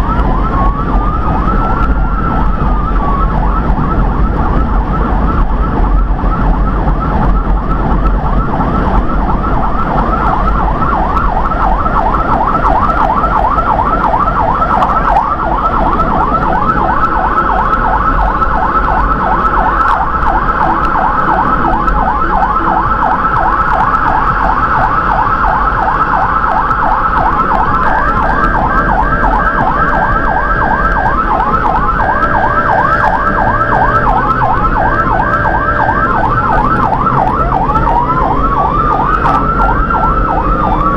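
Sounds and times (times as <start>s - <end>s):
electronic siren yelping: 0.0s - 40.9s
road and engine noise: 0.0s - 40.9s
steady siren tones: 0.0s - 40.9s.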